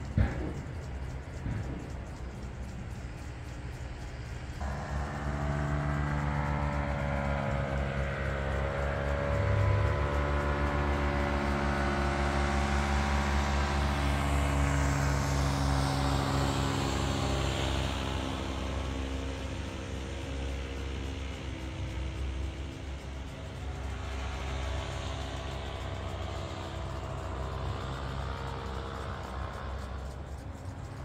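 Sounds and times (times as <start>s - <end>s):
paramotor engine droning overhead: 0.0s - 31.0s.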